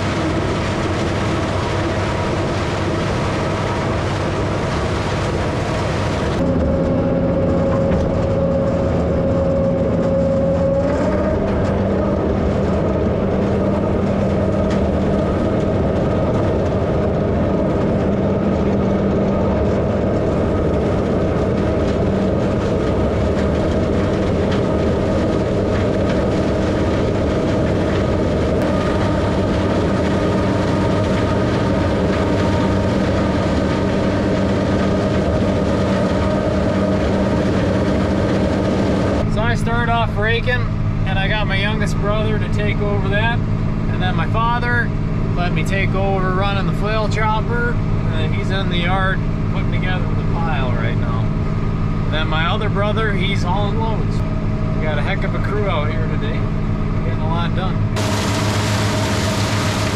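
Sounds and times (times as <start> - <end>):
flail chopper running: 0.0 - 59.9
tractor diesel engine: 0.0 - 59.9.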